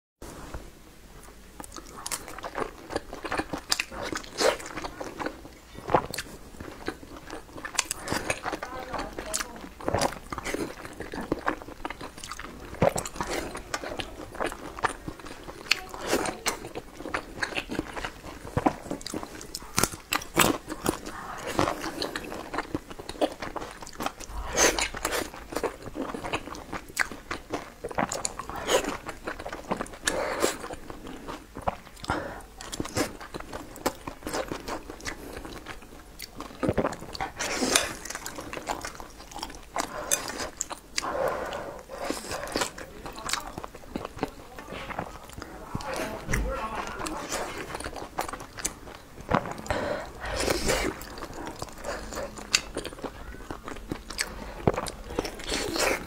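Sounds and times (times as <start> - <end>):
chewing with mouth clicks: 1.2 - 56.0.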